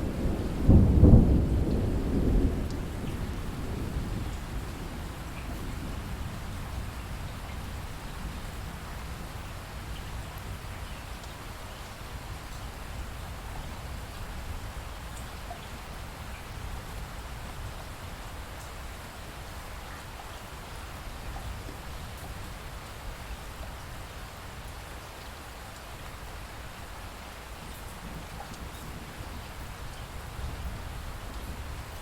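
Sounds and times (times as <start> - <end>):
hiss of rain: 0.0 - 32.0.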